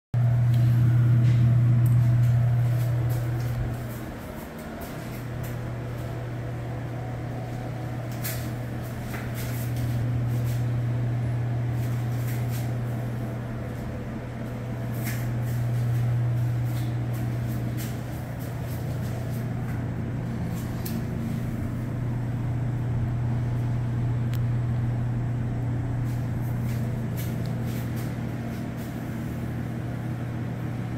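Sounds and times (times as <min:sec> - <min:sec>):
low hum: 0:00.1 - 0:30.9.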